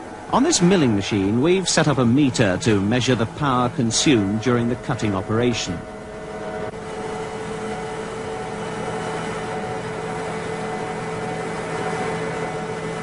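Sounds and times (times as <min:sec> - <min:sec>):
milling machine cutting metal: 0:00.0 - 0:13.0.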